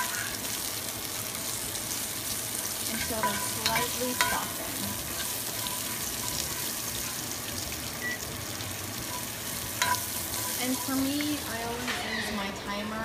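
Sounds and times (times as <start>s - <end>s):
green beans sizzling in oil: 0.0s - 13.0s.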